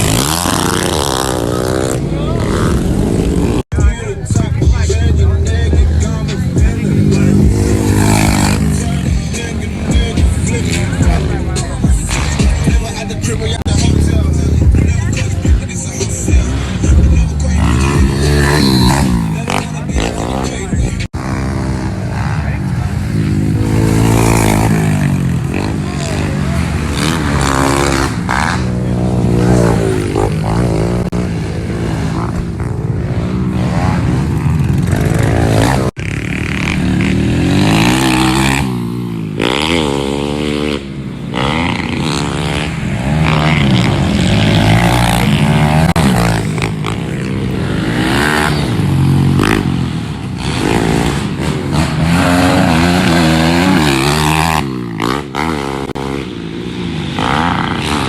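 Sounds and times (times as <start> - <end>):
pit bike engines racing: 0.0 - 58.0.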